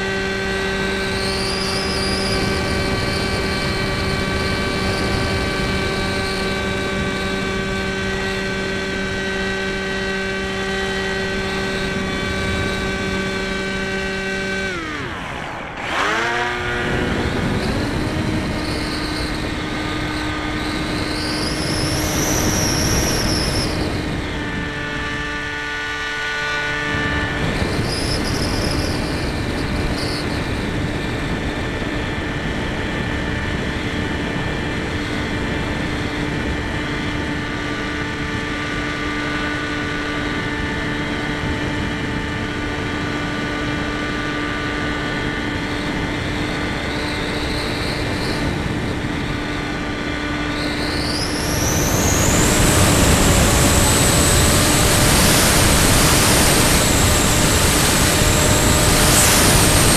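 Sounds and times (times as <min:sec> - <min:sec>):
model airplane motor whine: 0:00.0 - 0:59.9.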